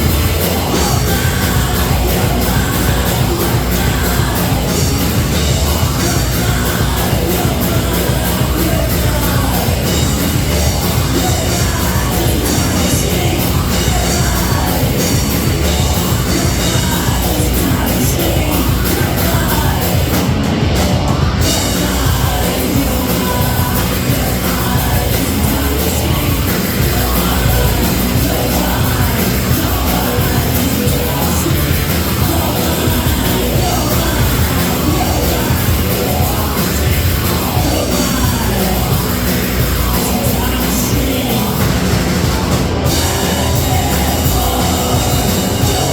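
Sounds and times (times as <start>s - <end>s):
heavy rock band playing live: 0.0s - 45.9s
sung and shouted vocals: 0.0s - 45.9s.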